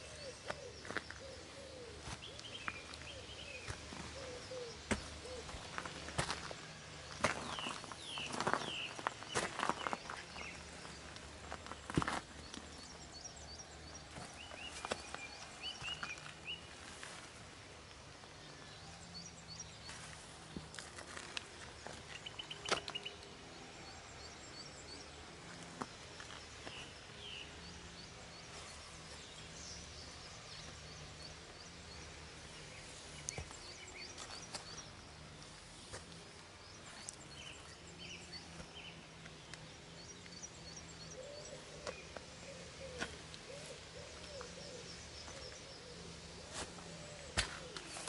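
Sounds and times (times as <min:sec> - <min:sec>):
low background noise: 0:00.0 - 0:48.0
small birds chirping: 0:00.0 - 0:48.0.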